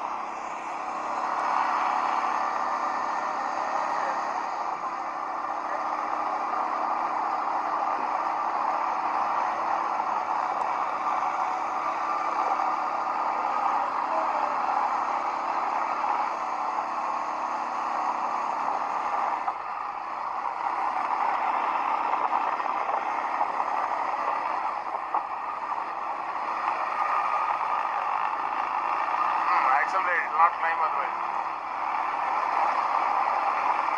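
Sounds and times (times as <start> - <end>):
atv engine running: 0.0 - 33.9.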